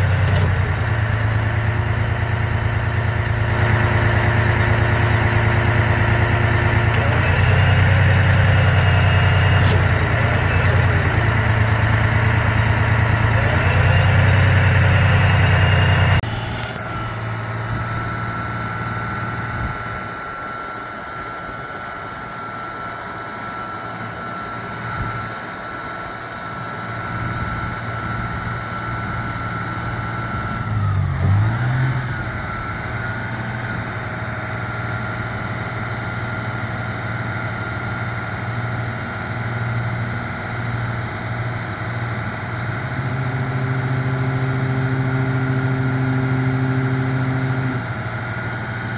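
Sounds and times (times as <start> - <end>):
fire truck engine running: 0.0 - 48.9
thin steady whine: 0.0 - 48.9.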